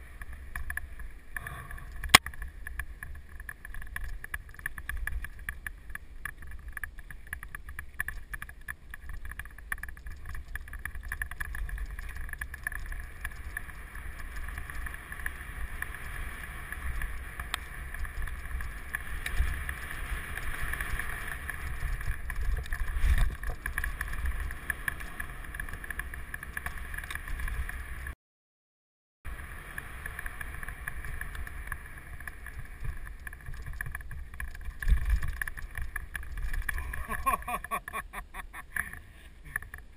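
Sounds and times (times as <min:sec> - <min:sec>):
bike rattling: 0:00.0 - 0:28.2, 0:29.3 - 0:39.9
bike tyres rumbling over dirt: 0:00.0 - 0:28.2, 0:29.3 - 0:39.9.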